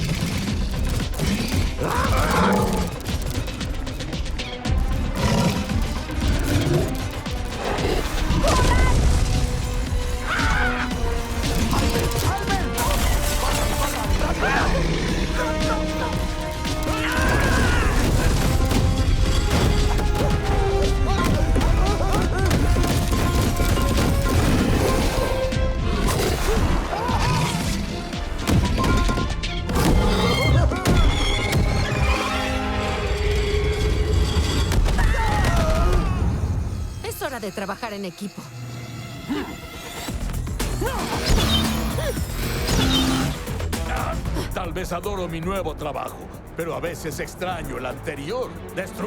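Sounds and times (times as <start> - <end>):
dramatic music: 0.0 - 49.0.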